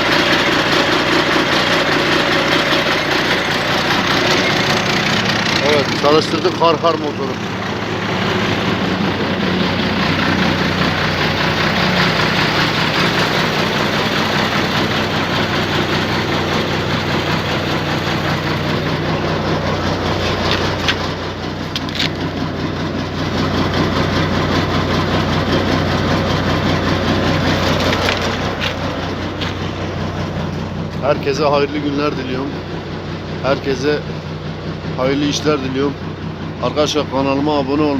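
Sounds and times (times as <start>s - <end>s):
diesel truck engine idling: 0.0s - 37.9s.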